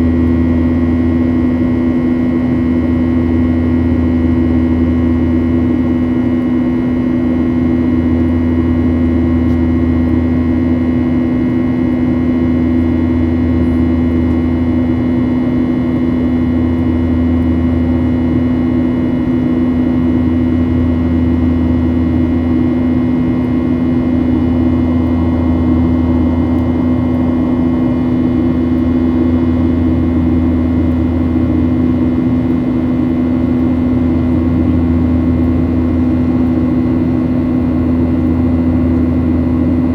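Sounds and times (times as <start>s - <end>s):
jet engines droning in flight: 0.0s - 39.9s.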